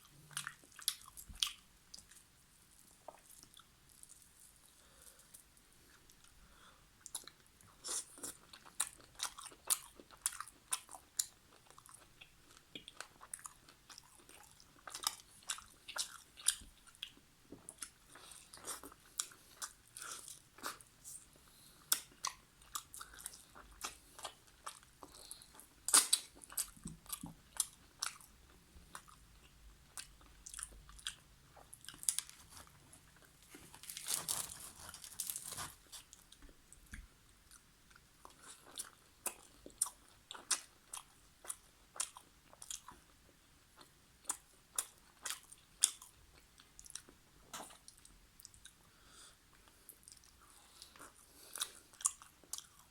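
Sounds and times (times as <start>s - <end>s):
person chewing: 0.0s - 5.3s, 7.0s - 43.2s, 43.8s - 52.9s.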